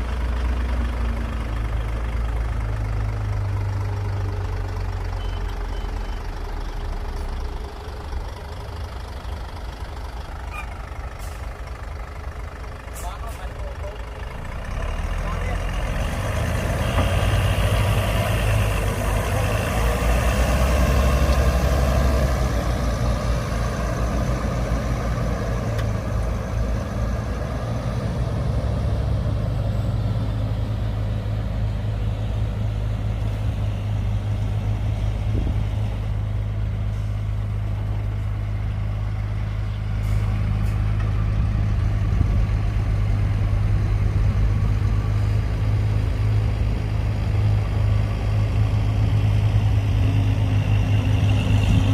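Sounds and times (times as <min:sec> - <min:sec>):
heavy diesel engine droning: 0:00.0 - 0:51.9.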